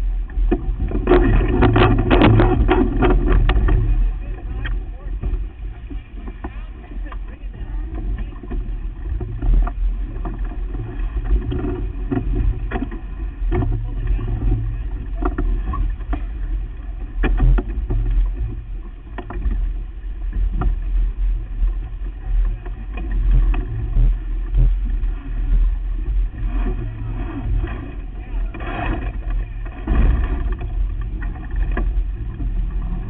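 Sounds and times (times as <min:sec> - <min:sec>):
rumble of wind and water: 0:00.0 - 0:33.0.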